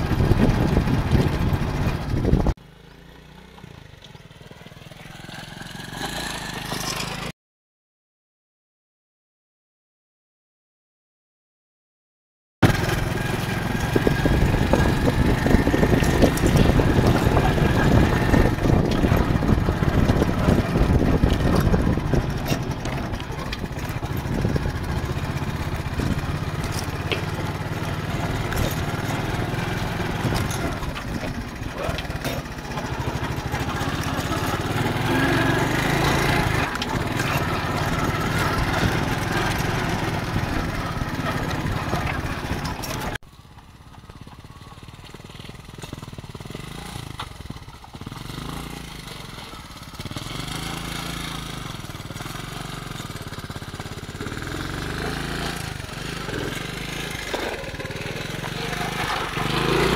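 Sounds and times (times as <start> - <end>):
motorcycle engine rumbling: 0.0 - 7.3, 12.6 - 59.9.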